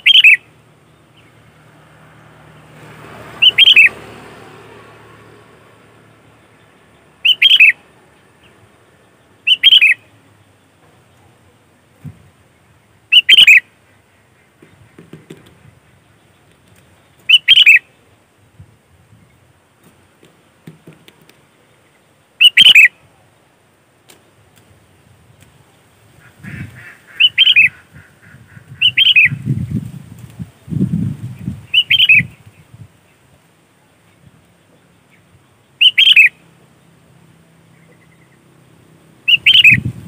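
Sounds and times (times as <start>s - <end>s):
bird calls: 0.0s - 4.8s, 5.7s - 18.1s, 19.2s - 24.4s, 25.4s - 29.9s, 30.6s - 40.0s.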